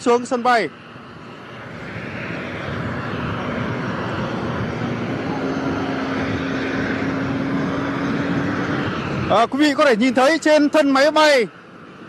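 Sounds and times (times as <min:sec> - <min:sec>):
jet engines rushing: 0:00.0 - 0:12.0
steady low hum: 0:00.0 - 0:12.0.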